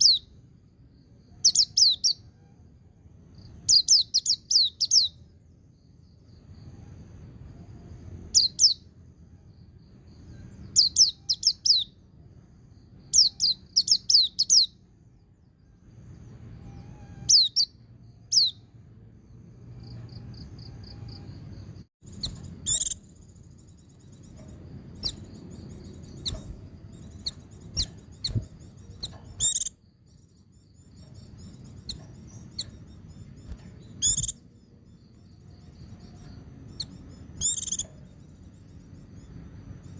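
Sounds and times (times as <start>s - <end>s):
bird chirping rapidly: 0.0s - 0.4s, 1.2s - 2.4s, 3.3s - 6.6s, 8.1s - 9.0s, 9.9s - 12.0s, 12.7s - 14.9s, 16.4s - 18.8s, 19.4s - 39.9s
soft bird twittering: 0.0s - 39.9s.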